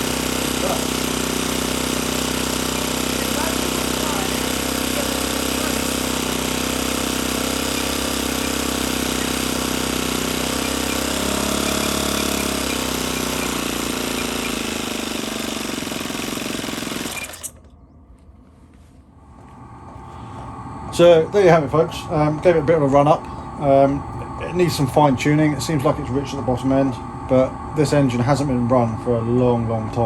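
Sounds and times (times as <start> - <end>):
model plane engine running: 0.0 - 17.7, 19.4 - 30.0.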